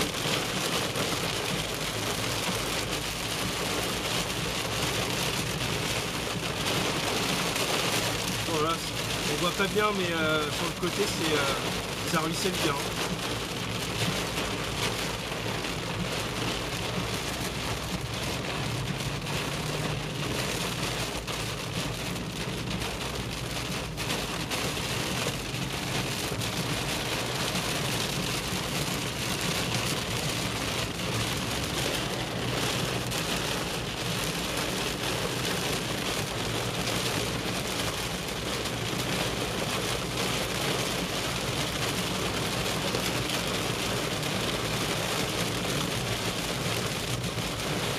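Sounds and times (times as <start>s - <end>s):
heavy rain on car roof: 0.0s - 47.9s.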